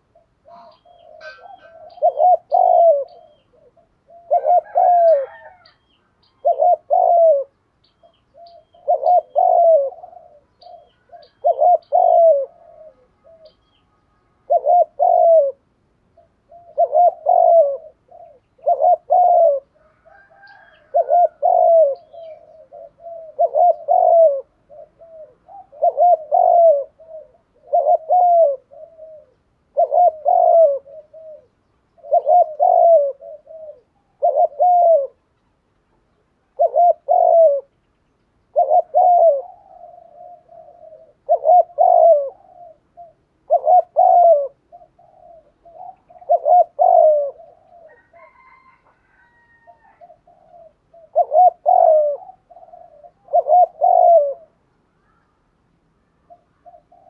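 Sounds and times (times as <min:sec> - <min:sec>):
dove cooing: 0:00.0 - 0:35.5, 0:36.3 - 0:55.4, 0:56.2 - 0:57.0.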